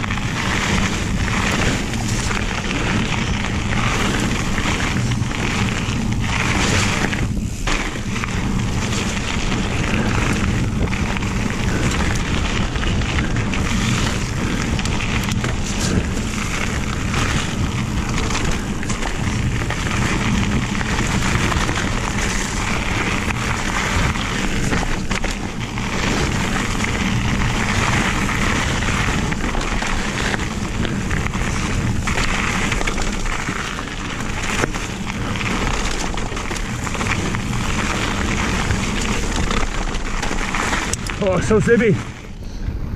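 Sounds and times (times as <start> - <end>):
bike tyres on gravel: 0.0 - 42.9
wind buffeting microphone: 0.0 - 42.9.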